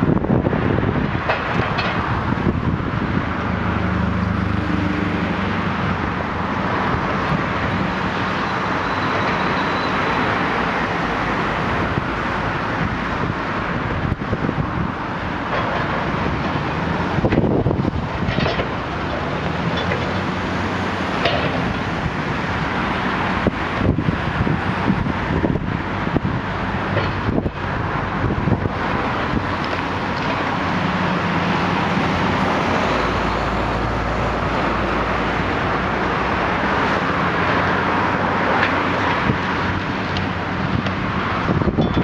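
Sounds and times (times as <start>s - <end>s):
excavator diesel engine running: 0.1s - 42.0s.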